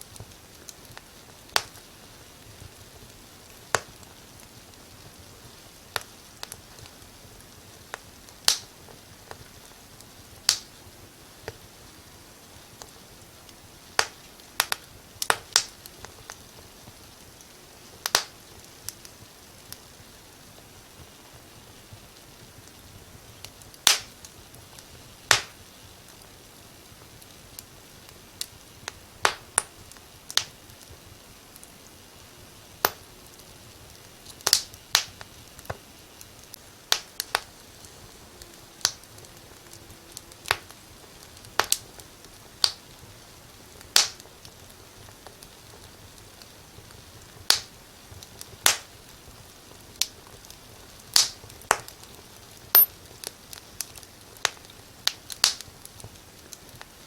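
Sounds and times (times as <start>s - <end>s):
low steady hiss: 0.0s - 57.0s
wood fire crackling: 0.0s - 57.0s.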